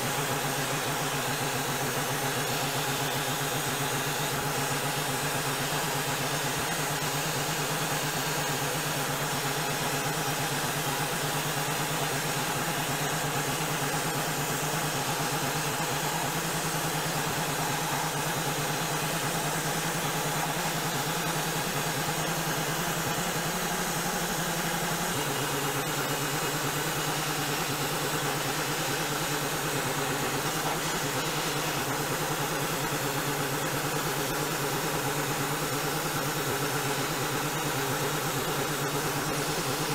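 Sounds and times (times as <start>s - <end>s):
blast nozzle hissing: 0.0s - 39.9s
motor humming: 1.2s - 39.9s.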